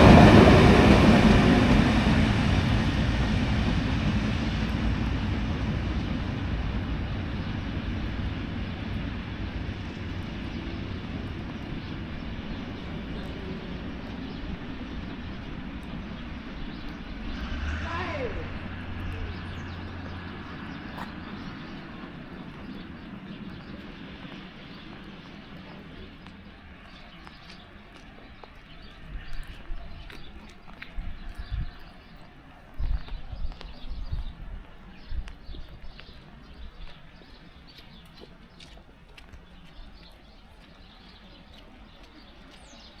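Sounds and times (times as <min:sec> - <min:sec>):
train rumbling: 0:00.0 - 0:43.0.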